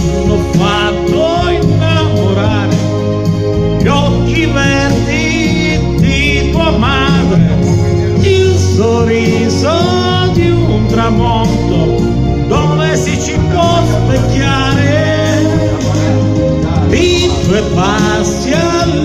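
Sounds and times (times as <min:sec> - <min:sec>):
backing track with bass: 0:00.0 - 0:19.0
man singing a ballad: 0:00.0 - 0:19.0.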